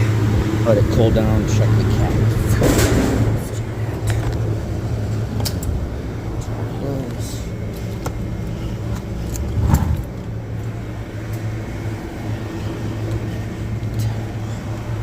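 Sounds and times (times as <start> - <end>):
condensing unit humming: 0.0 - 15.0.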